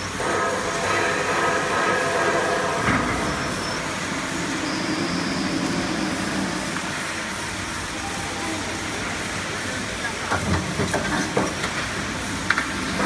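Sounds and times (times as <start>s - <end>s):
machine whine: 0.0s - 13.0s
roll forming machine hum and rattle: 0.0s - 13.0s.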